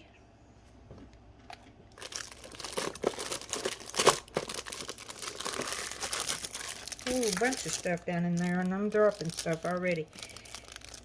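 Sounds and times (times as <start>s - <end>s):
plastic packaging crinkling: 1.5s - 11.0s.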